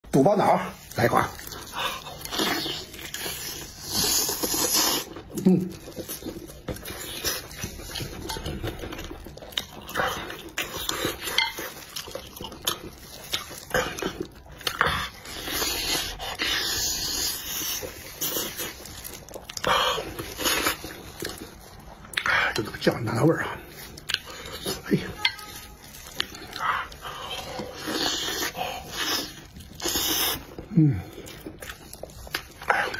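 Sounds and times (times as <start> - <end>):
chewing soft meat: 0.7 - 32.9.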